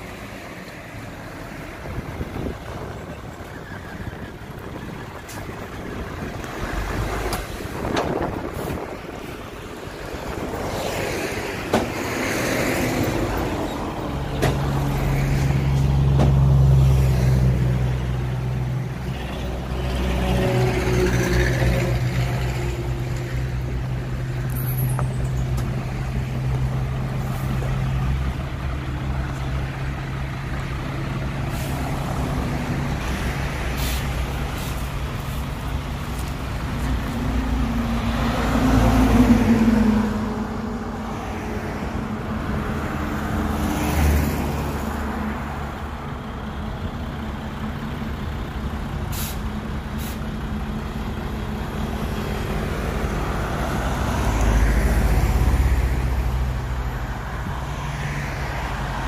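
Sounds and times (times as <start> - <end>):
diesel truck engine humming: 0.0 - 59.0.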